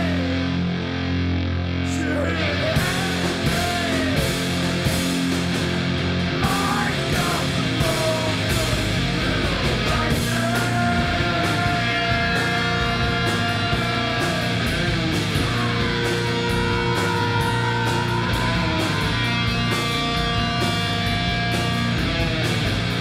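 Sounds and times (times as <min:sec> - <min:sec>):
electric guitars: 0:00.0 - 0:23.0
steady drum beat: 0:02.8 - 0:23.0.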